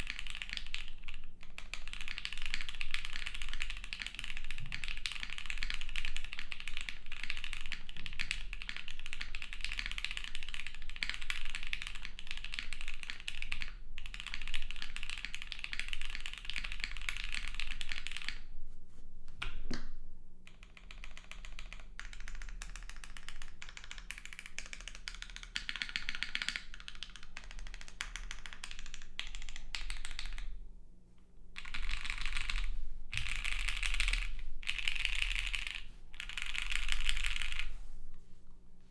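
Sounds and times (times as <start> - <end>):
mechanical keyboard typing: 0.0 - 18.4, 20.6 - 30.4, 31.6 - 37.6.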